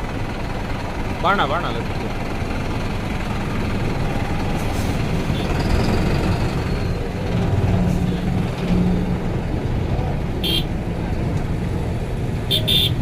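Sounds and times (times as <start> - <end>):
low engine drone: 0.0 - 13.0
vehicle road noise: 0.0 - 13.0.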